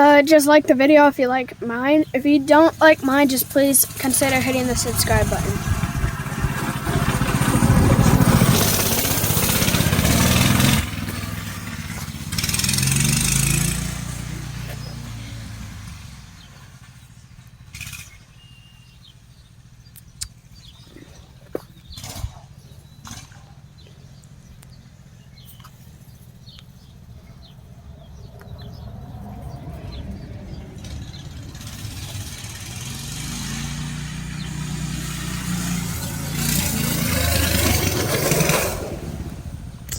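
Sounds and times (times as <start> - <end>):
minibike engine revving: 0.0 - 39.9.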